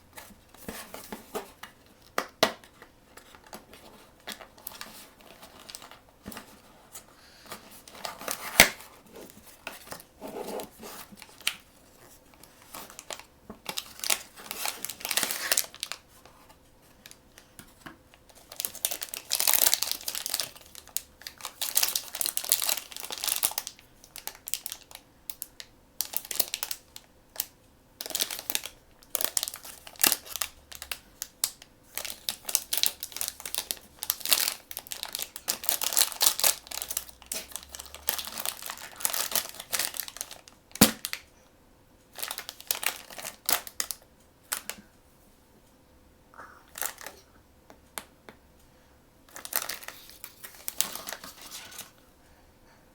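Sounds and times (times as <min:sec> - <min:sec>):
packaging crinkling and tearing: 0:00.6 - 0:06.6, 0:07.5 - 0:16.2, 0:18.3 - 0:41.2, 0:42.1 - 0:44.8, 0:46.7 - 0:47.2, 0:49.3 - 0:52.0.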